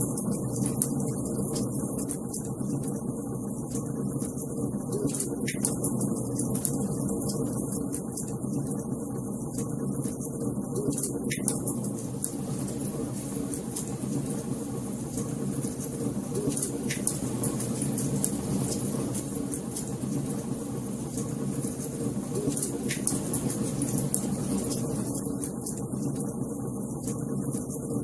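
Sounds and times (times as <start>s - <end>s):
fireplace fire crackling: 0.0s - 8.9s, 9.6s - 28.0s.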